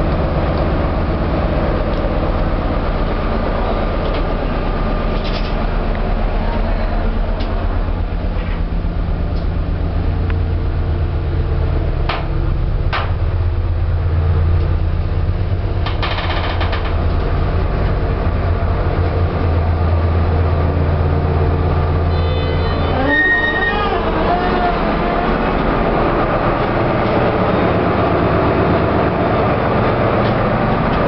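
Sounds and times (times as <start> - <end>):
lift humming: 0.0 - 31.0.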